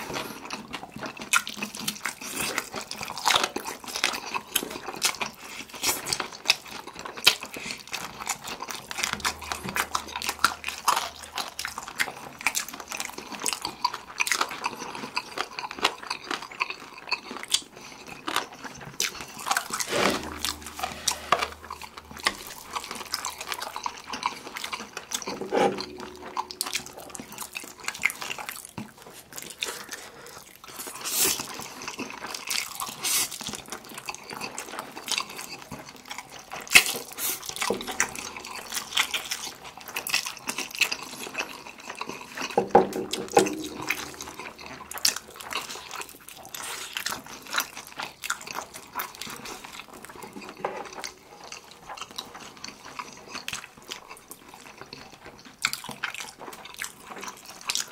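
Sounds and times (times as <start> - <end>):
wet chewing and slurping: 0.0 - 57.9.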